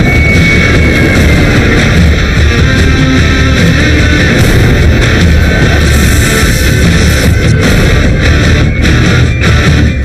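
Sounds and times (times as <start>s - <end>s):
hard rock music with heavy guitars: 0.0s - 10.0s.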